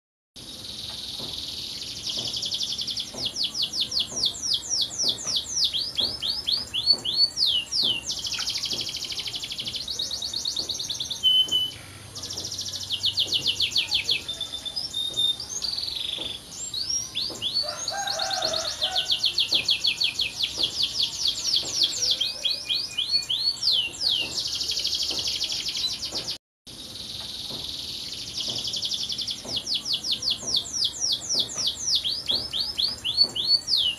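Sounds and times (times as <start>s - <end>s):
canary singing trills: 0.7s - 26.3s, 27.0s - 33.9s.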